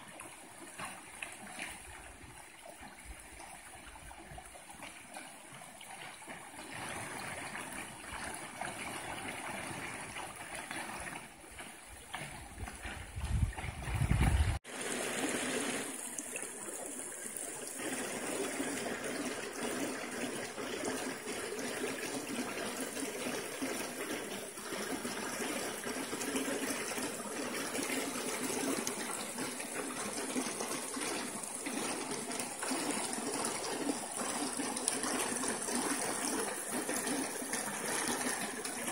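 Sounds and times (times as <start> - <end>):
creek water running over gravel: 0.0 - 38.9.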